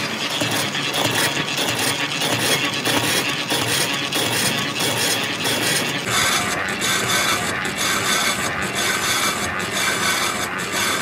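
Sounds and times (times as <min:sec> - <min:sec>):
lathe cutting tool grinding metal: 0:00.0 - 0:11.0.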